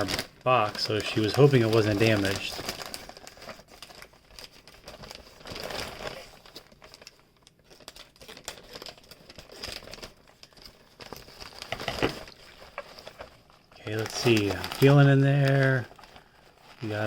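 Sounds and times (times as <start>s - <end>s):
mailing bag crinkling: 0.0s - 17.0s.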